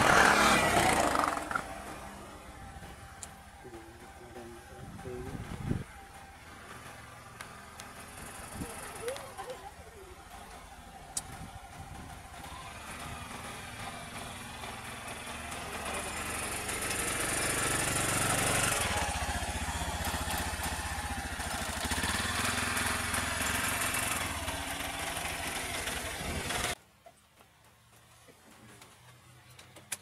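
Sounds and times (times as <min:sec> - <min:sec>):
small engine idling: 0:00.0 - 0:26.8.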